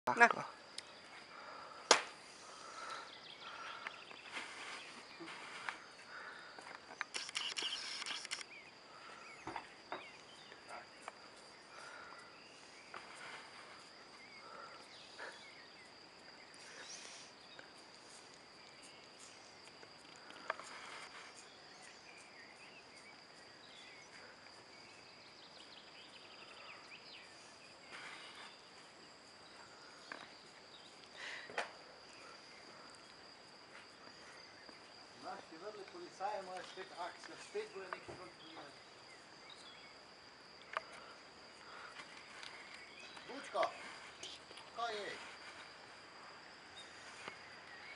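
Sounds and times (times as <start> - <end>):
high insect trill: 0.1 - 47.9.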